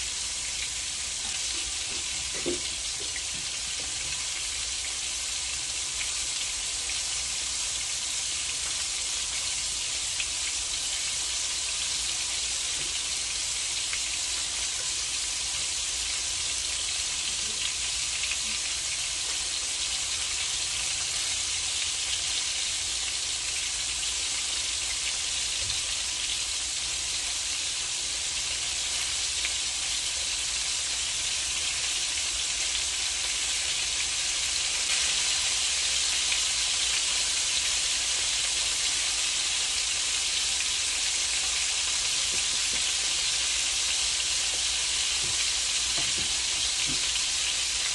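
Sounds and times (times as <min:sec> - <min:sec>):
meat patties sizzling in a pan: 0:00.0 - 0:47.9.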